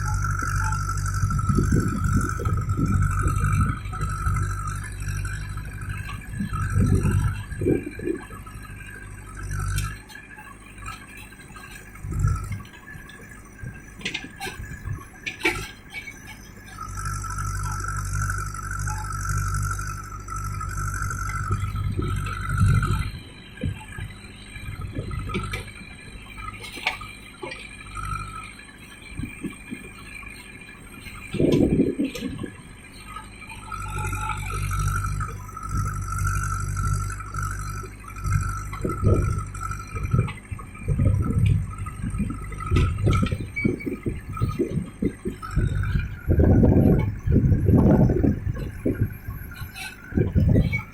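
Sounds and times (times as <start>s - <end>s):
diesel engine working: 0.0s - 50.9s
steady whine: 0.0s - 50.9s.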